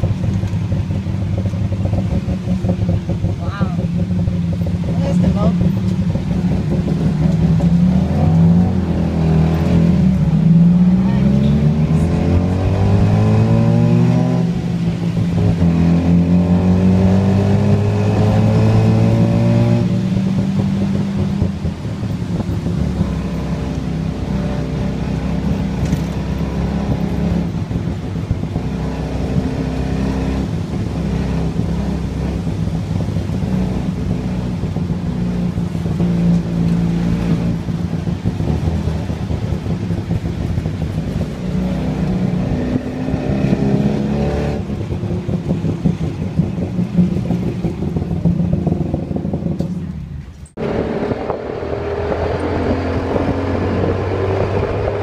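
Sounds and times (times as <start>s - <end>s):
tuk-tuk engine accelerating: 0.0s - 55.0s.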